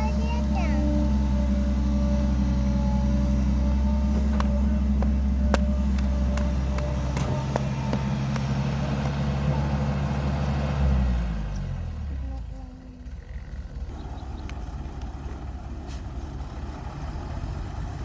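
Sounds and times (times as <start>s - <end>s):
diesel engine of heavy machinery: 0.0s - 18.0s.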